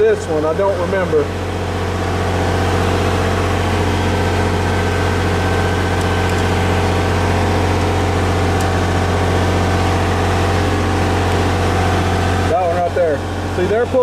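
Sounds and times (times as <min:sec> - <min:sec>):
diesel generator engine running: 0:00.0 - 0:14.0.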